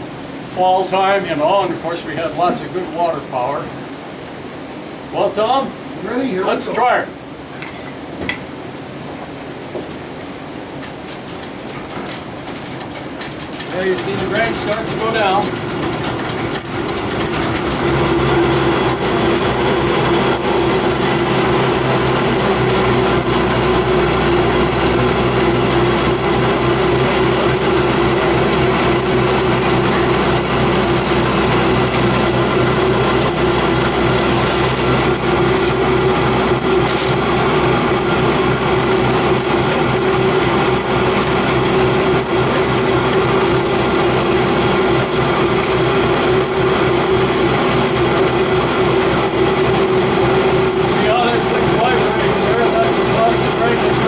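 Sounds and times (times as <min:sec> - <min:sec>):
grist mill mechanical hum: 0:00.0 - 0:54.0.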